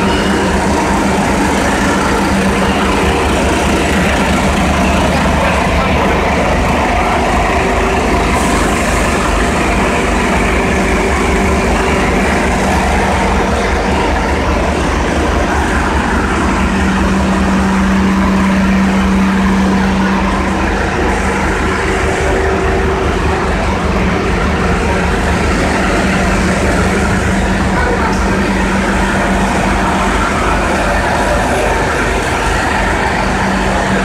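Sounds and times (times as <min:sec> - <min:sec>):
bus engine drone: 0:00.0 - 0:34.0.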